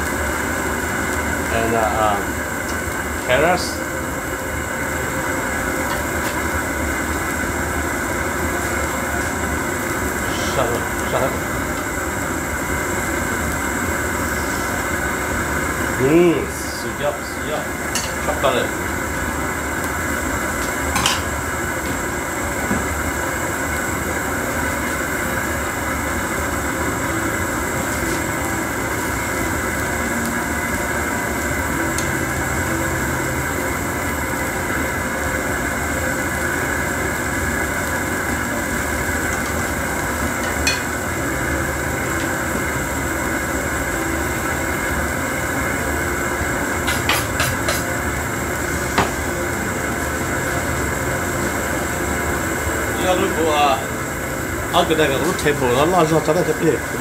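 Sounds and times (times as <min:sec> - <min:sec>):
gas burner hissing: 0:00.0 - 0:57.0.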